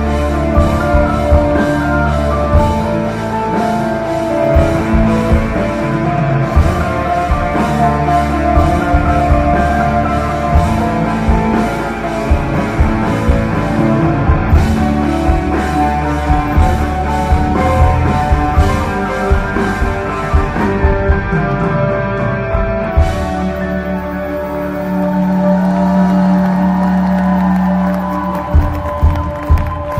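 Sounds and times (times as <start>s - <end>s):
rock band playing live: 0.0s - 29.9s.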